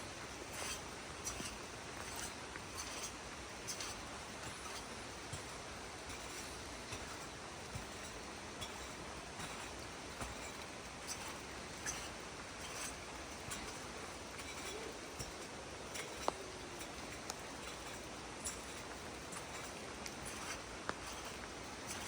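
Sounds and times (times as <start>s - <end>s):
forest ambience hiss: 0.0s - 22.0s.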